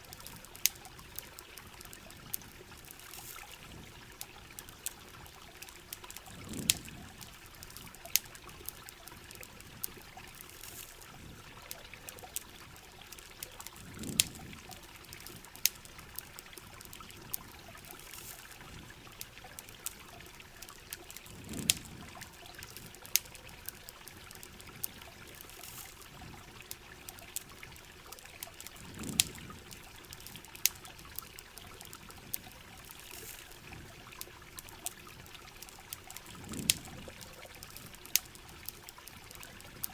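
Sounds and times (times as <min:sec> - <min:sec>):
campfire crackling: 0:00.0 - 0:39.9
rain: 0:00.0 - 0:39.9
trickling water: 0:00.0 - 0:39.9.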